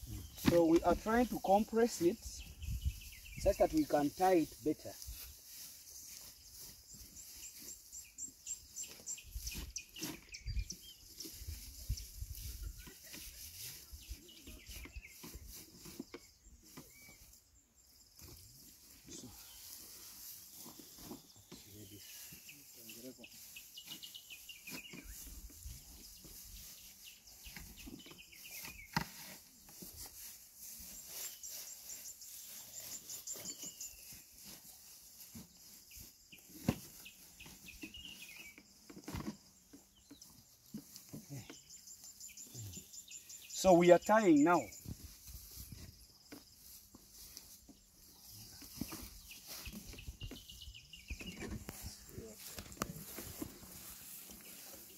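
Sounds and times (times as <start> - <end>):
birds chirping: 0.0 - 54.9
dry grass rustling and crunching: 0.0 - 54.9.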